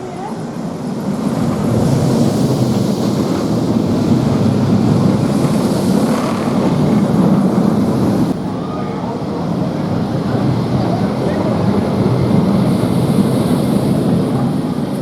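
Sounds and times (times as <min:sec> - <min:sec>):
roller coaster rumbling on track: 0:00.0 - 0:15.0.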